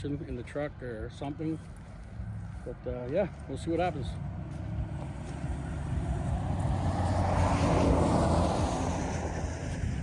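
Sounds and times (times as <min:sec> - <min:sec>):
low engine hum: 0:01.0 - 0:10.0
vehicle passing: 0:01.5 - 0:10.0.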